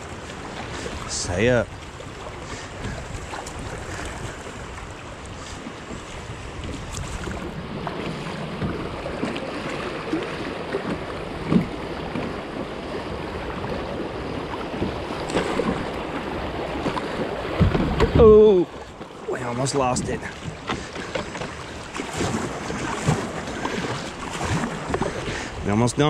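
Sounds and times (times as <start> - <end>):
water splashing against kayak: 0.0 - 26.0.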